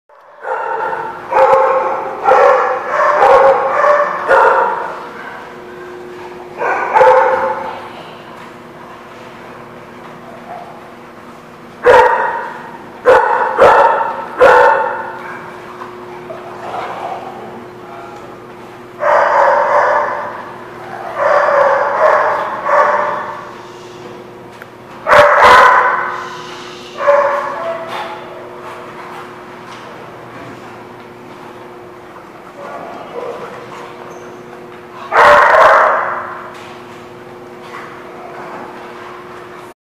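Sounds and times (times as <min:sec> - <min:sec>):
dogs barking: 0:00.2 - 0:08.0, 0:09.0 - 0:30.2, 0:30.8 - 0:39.7
steady low hum: 0:00.2 - 0:39.8.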